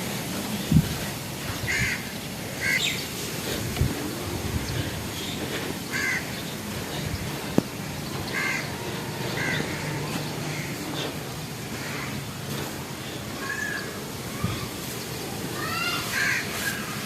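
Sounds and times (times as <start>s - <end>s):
steady rustling: 0.0s - 17.0s
crows cawing: 1.5s - 17.0s.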